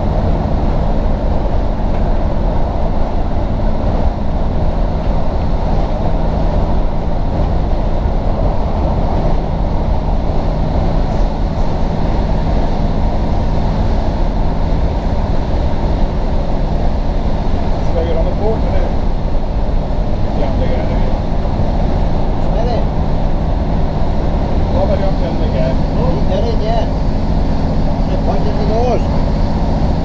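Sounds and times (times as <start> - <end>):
train engine drone: 0.0 - 30.0
train running gear rumble: 0.0 - 30.0.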